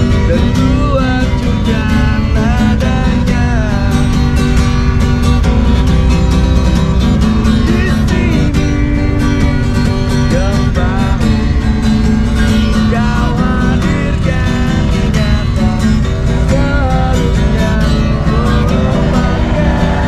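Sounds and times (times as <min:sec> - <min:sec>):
man singing: 0:00.0 - 0:05.0, 0:07.6 - 0:20.0
strummed acoustic guitar: 0:00.0 - 0:20.0.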